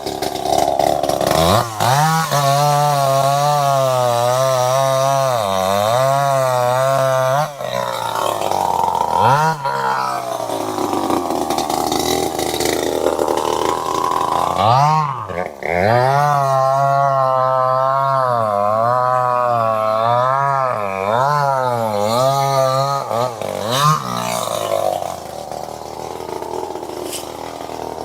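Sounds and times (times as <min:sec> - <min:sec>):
chainsaw engine at high revs: 0:00.0 - 0:28.0.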